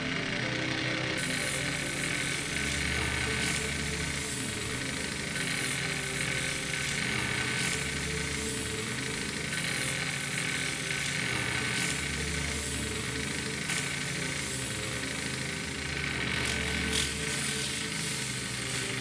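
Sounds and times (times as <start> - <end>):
cutter shaving wood: 0.0 - 19.0
lathe motor whining: 0.0 - 19.0.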